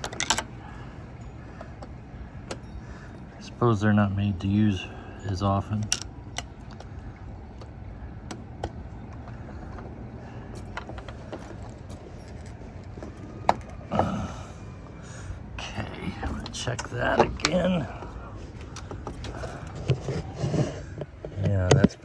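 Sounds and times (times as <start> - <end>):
low hum: 0.0 - 21.3.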